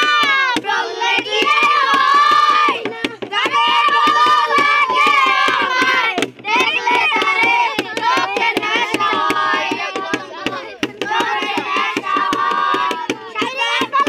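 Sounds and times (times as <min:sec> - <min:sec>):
boys singing: 0:00.0 - 0:14.0.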